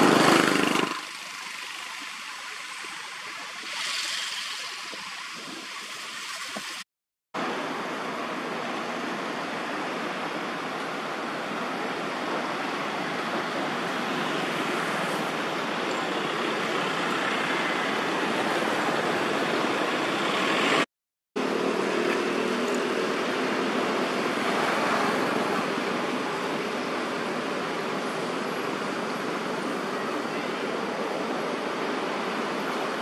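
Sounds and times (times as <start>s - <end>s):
outdoor background rushing noise: 0.0s - 33.0s.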